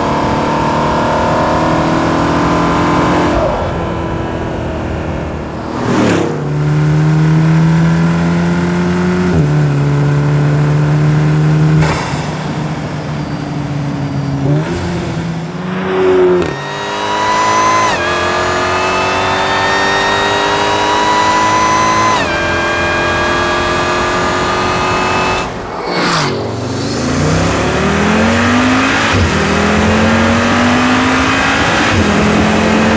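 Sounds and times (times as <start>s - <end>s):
car engine accelerating through gears: 0.0s - 32.9s.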